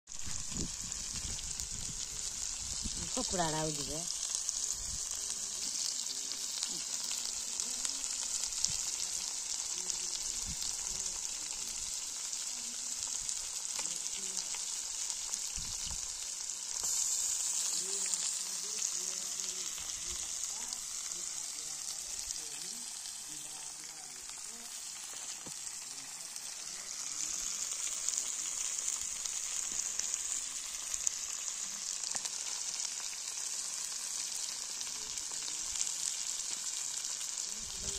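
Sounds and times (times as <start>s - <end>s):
fish sizzling in a pan: 0.1s - 37.9s.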